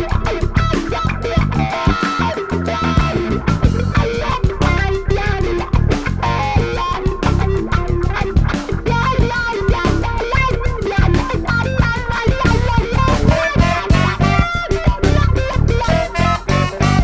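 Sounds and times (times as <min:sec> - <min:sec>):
funk band playing live: 0:00.0 - 0:17.0
picked electric guitar notes: 0:00.0 - 0:17.0.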